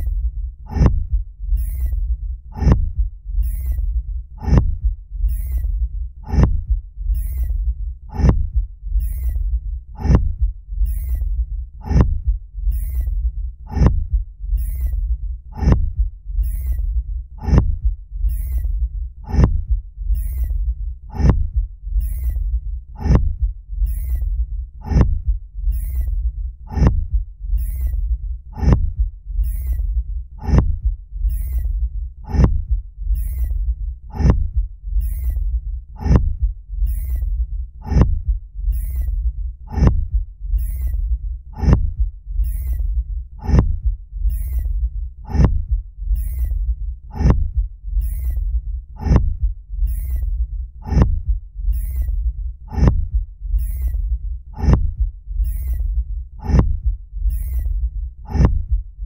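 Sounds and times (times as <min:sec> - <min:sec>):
continuous low rumble: 0:00.0 - 0:59.0
deep rhythmic thumps: 0:00.0 - 0:59.0.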